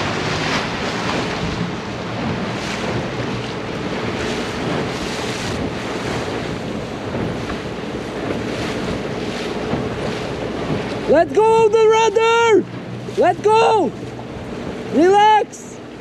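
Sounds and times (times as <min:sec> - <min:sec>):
choppy water splashing: 0:00.0 - 0:16.0
wind buffeting microphone: 0:00.0 - 0:16.0.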